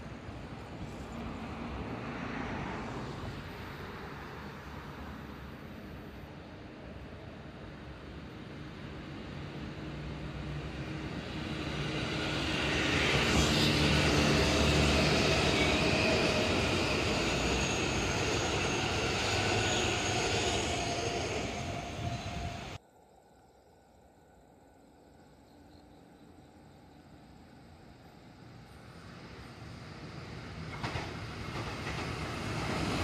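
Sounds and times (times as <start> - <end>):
train wheels on rail: 0.0 - 22.8, 26.8 - 33.0.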